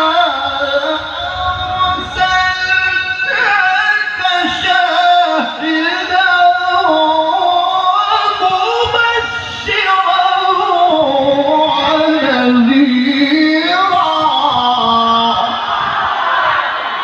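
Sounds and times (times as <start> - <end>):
man reciting melismatic chant: 0.0 - 15.9.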